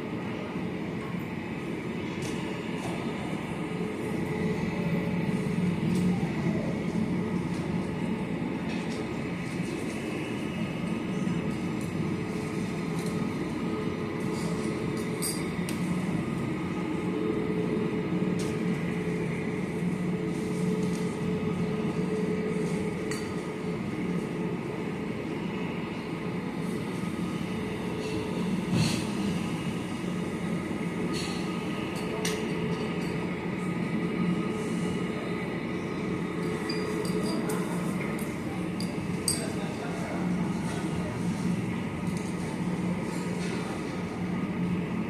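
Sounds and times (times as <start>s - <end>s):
mechanical rumble and hum: 0.0s - 45.0s.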